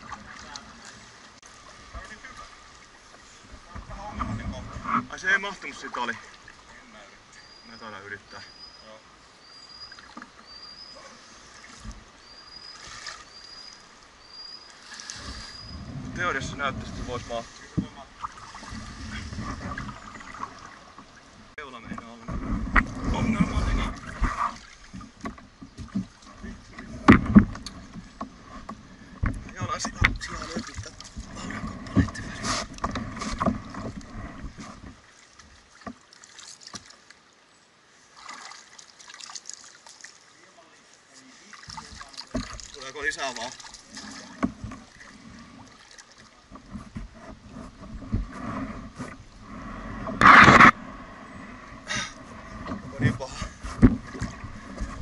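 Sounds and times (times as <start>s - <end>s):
paddles knocking and splashing water: 0.0s - 37.3s, 38.0s - 55.0s.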